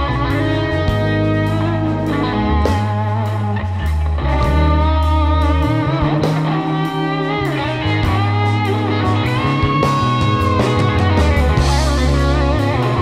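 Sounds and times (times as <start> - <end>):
bass guitar: 0.0 - 13.0
drums: 0.0 - 13.0
electric guitar lead: 0.0 - 13.0.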